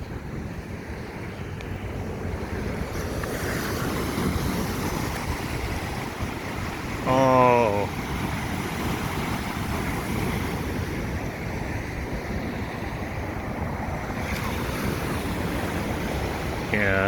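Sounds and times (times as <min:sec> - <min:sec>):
ocean surf rushing: 0:00.0 - 0:17.0
wind on microphone: 0:00.0 - 0:17.0.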